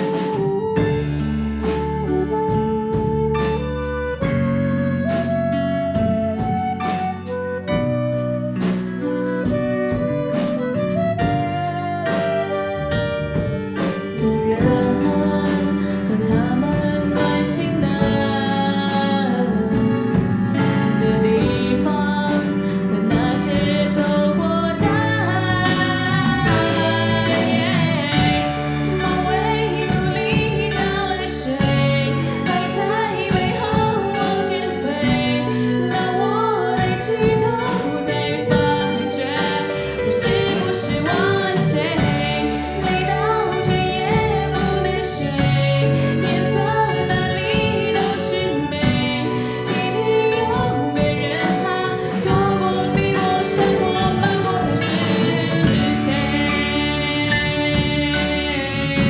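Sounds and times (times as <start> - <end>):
live pop band playing: 0.0 - 59.0
steady drum beat: 0.0 - 59.0
woman singing: 8.5 - 59.0.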